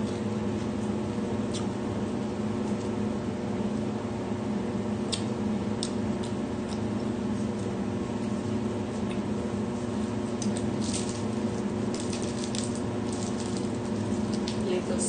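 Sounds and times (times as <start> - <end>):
low mechanical appliance hum: 0.0 - 15.0.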